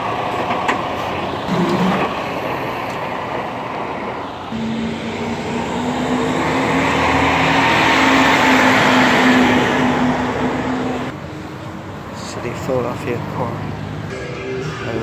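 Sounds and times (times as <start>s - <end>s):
diesel trucks passing: 0.0s - 15.0s.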